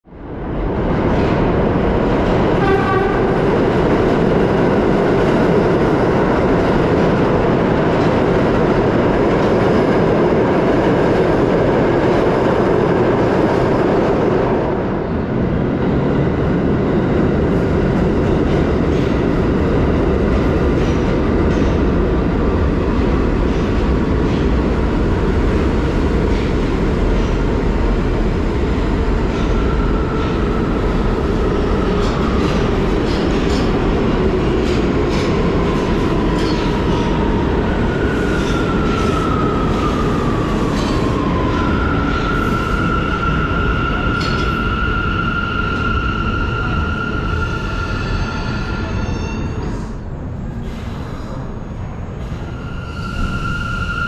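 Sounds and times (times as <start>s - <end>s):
subway train wheels rumbling: 0.0s - 54.0s.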